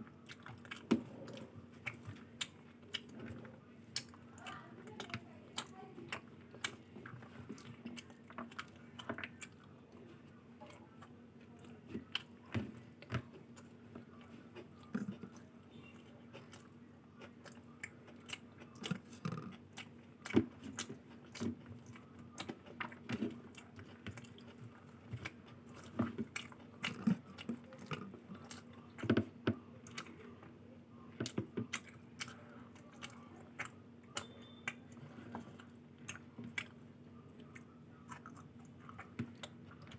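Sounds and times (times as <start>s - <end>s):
faint hum: 0.0s - 39.9s
person chewing: 0.1s - 29.2s, 29.8s - 30.3s, 31.2s - 39.9s.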